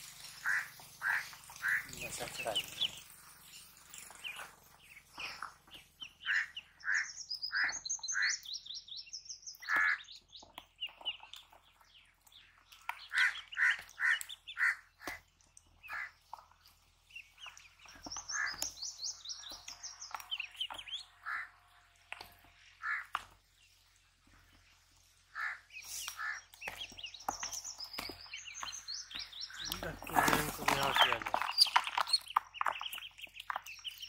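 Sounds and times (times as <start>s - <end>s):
ducklings peeping: 0.2s - 34.0s.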